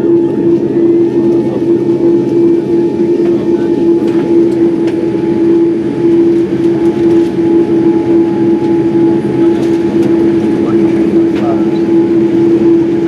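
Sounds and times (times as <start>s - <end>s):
jet engine cabin drone: 0.0s - 13.0s.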